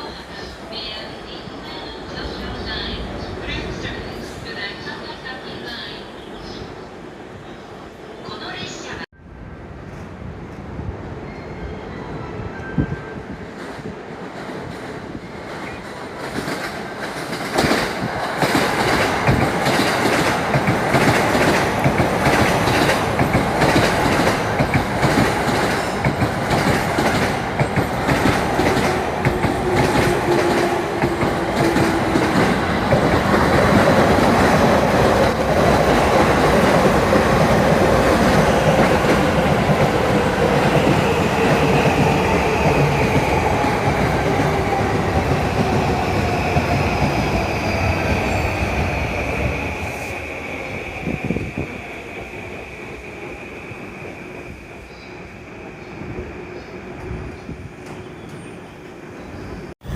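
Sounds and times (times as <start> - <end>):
train wheels rumbling on rail: 9.7 - 59.9.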